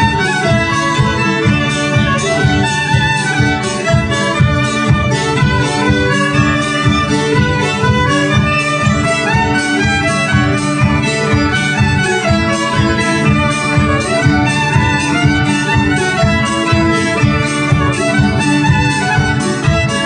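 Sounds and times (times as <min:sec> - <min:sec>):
fiddle: 0:00.0 - 0:20.0
folk dance band playing: 0:00.0 - 0:20.0
steady pulsing beat: 0:00.0 - 0:20.0.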